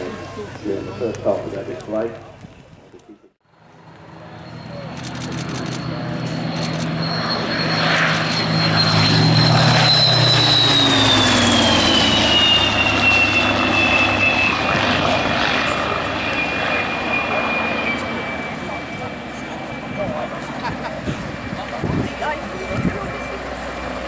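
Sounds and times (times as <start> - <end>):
piston aircraft engines flying past: 0.0 - 24.0.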